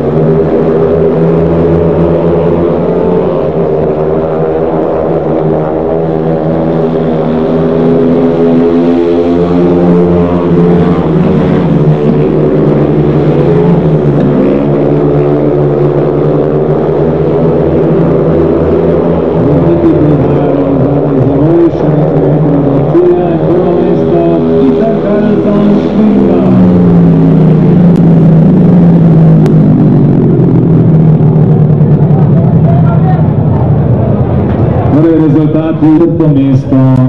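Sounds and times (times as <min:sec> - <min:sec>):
motorcycle engines racing: 0:00.0 - 0:37.0.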